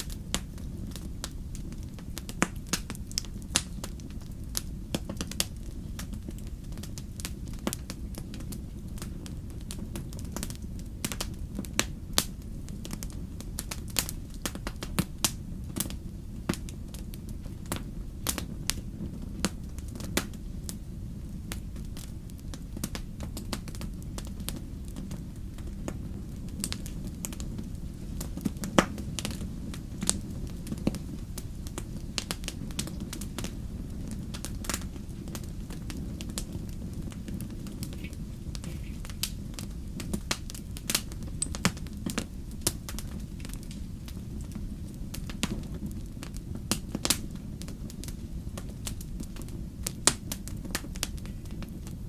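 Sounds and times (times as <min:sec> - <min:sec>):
campfire pops and crackles: 0:00.0 - 0:52.0
low rumble of flames: 0:00.0 - 0:52.0.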